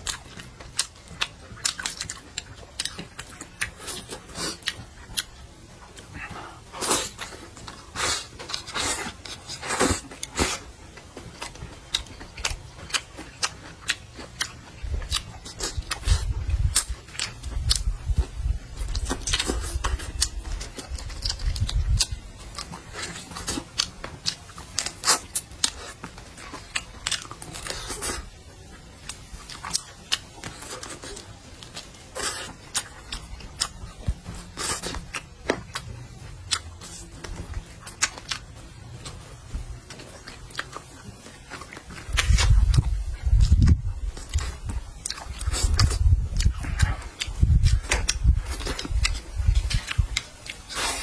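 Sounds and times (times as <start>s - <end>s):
person chewing meat: 0.0s - 51.0s.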